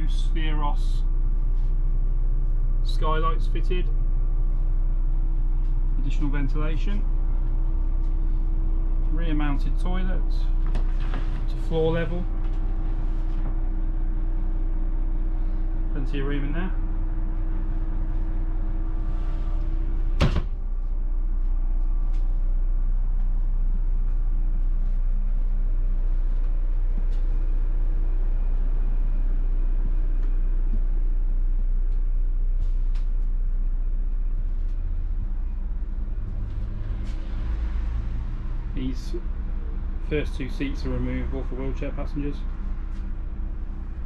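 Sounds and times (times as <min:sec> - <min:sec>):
coach engine drone: 0:00.0 - 0:44.0.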